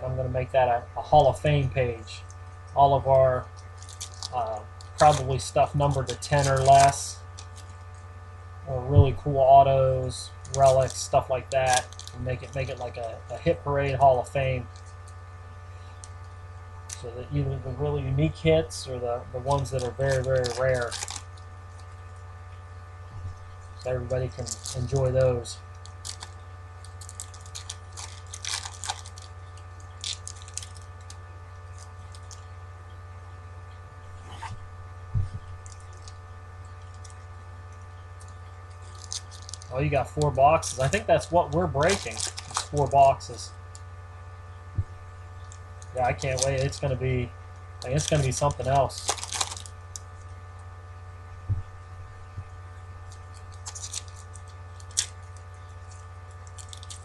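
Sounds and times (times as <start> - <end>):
electrical hum: 0.0 - 57.0
foil wrappers crinkling: 1.1 - 8.1, 10.3 - 18.6, 19.4 - 22.3, 23.3 - 32.7, 34.1 - 44.0, 45.1 - 50.4, 52.9 - 57.0.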